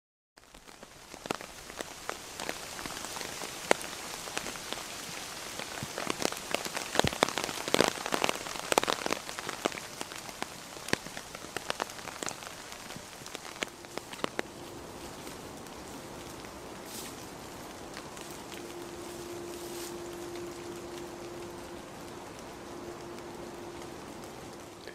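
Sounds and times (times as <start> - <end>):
rain on a tent: 0.4 - 24.9.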